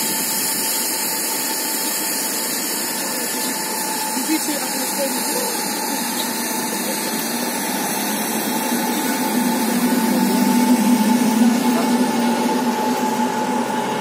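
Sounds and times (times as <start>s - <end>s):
electric train hum: 0.0s - 14.0s.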